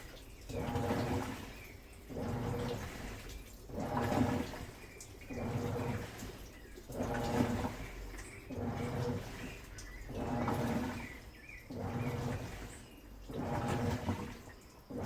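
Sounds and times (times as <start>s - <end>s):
washing machine motor hum: 0.0s - 15.0s
water sloshing in washing machine: 0.0s - 15.0s.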